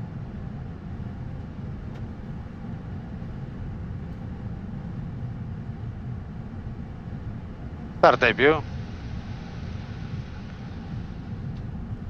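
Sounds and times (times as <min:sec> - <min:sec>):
airflow and engine noise in cockpit: 0:00.0 - 0:12.0.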